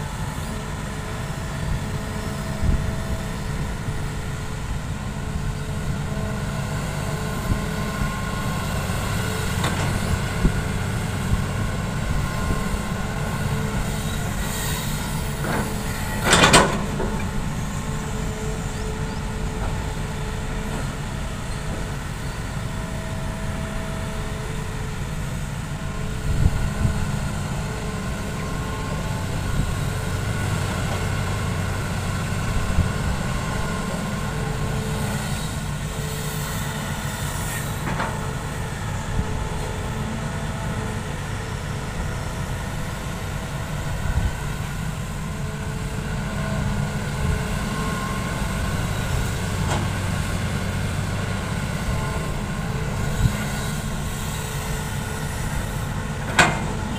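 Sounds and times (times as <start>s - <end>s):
excavator engine humming: 0.0s - 56.9s.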